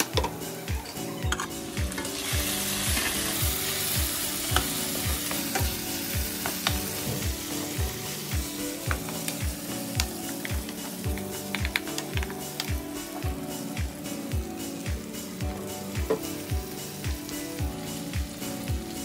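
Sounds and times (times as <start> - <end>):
background music with steady beat: 0.0 - 19.0
onion and garlic sizzling in oil: 0.0 - 19.0.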